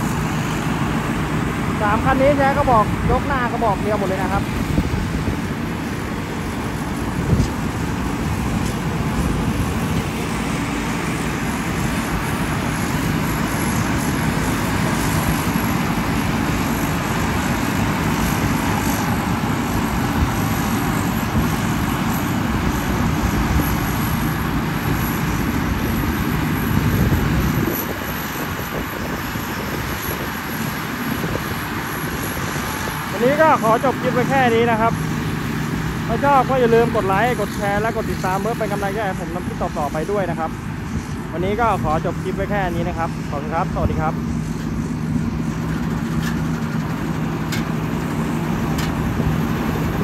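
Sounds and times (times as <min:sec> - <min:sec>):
combine harvester droning: 0:00.0 - 0:50.0.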